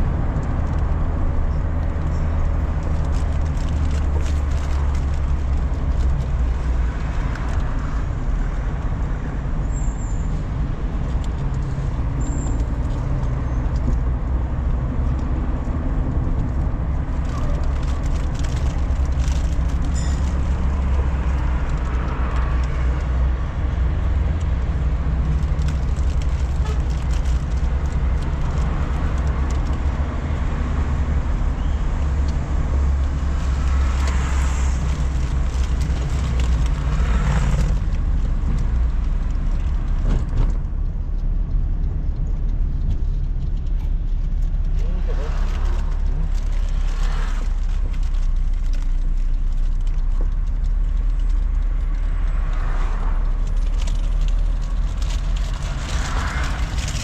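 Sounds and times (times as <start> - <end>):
car engine hum: 0.0 - 57.0
road rumble and tyre noise: 0.0 - 57.0.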